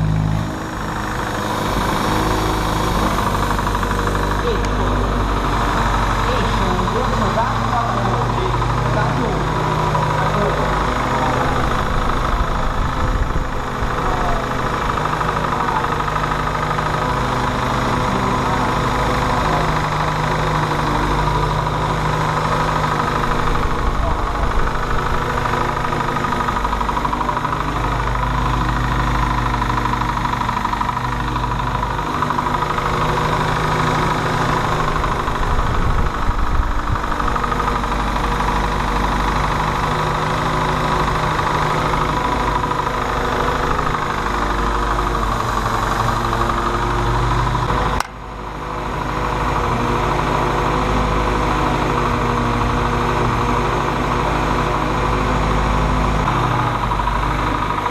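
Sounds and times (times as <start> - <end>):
jeep engine idling: 0.0 - 57.9.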